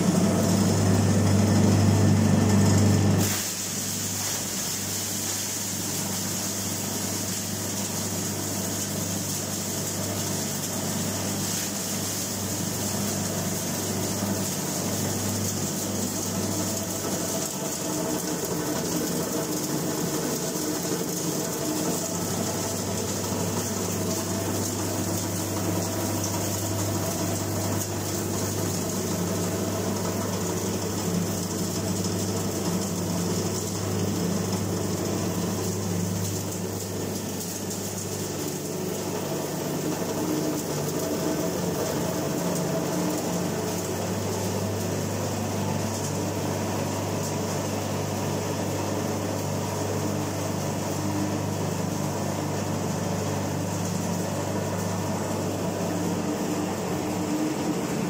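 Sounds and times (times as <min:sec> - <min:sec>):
shredding machine hum and hiss: 0:00.0 - 0:58.0.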